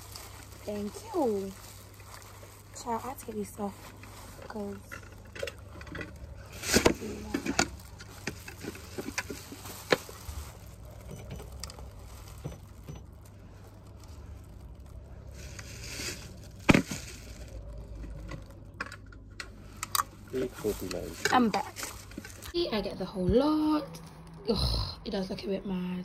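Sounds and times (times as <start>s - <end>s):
plastic bag rustling: 0.0s - 22.6s.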